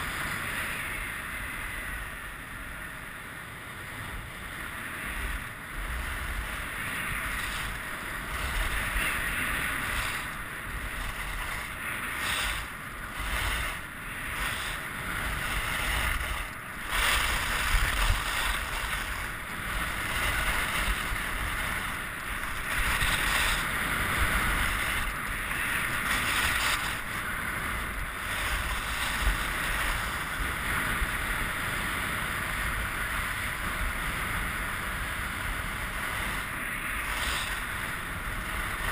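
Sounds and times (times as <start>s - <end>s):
wind buffeting microphone: 3.9s - 38.9s
skis scraping on snow: 4.0s - 38.9s.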